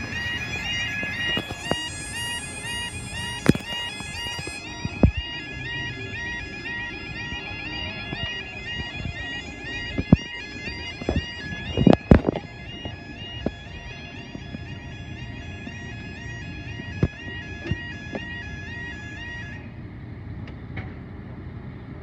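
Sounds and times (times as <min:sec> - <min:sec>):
level crossing two-tone alarm: 0:00.0 - 0:19.3.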